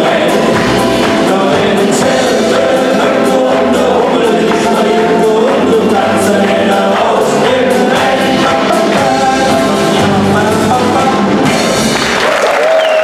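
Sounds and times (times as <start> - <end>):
accordion: 0.0 - 11.8
men singing in chorus: 0.0 - 11.8
banjo: 0.0 - 12.2
drum hits: 0.0 - 12.3.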